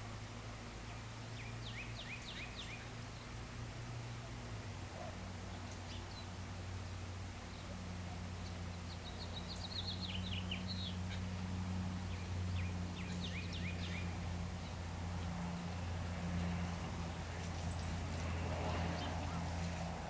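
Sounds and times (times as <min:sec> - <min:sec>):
steady low hum: 0:00.0 - 0:20.0
small birds chirping: 0:00.8 - 0:03.4, 0:04.2 - 0:06.6, 0:07.3 - 0:20.0.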